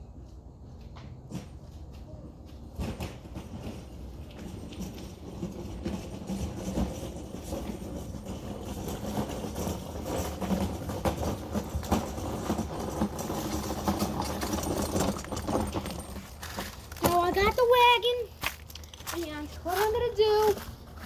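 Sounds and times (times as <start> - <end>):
garden wagon rattling: 2.4 - 21.0.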